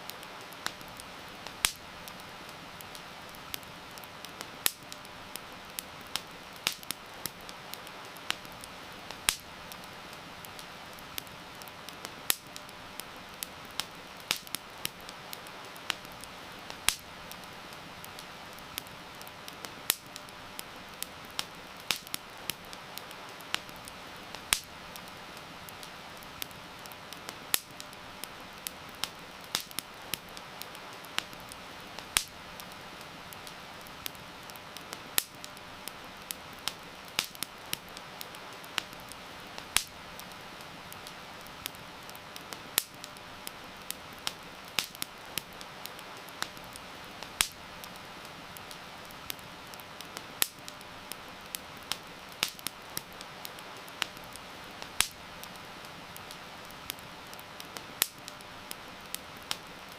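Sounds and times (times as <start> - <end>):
campfire crackling and popping: 0.0 - 59.9
rain hissing: 0.0 - 59.9.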